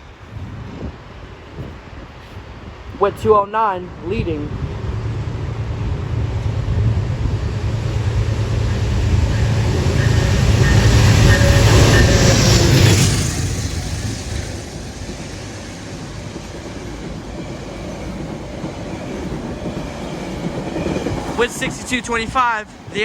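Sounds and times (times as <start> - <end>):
locomotive drone: 0.0 - 23.0
rolling rail noise: 0.0 - 23.0.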